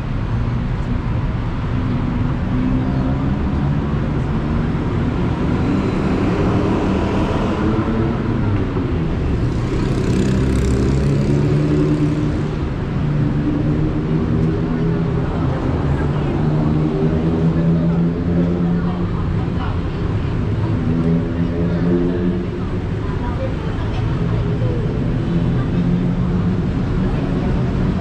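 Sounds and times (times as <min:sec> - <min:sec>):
city road traffic: 0:00.0 - 0:28.0.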